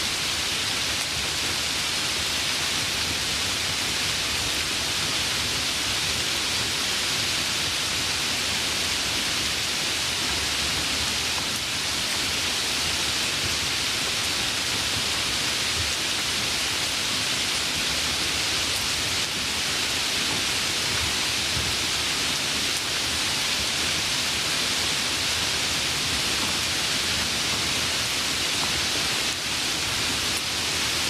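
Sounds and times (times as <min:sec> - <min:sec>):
steady rainfall: 0:00.0 - 0:31.0.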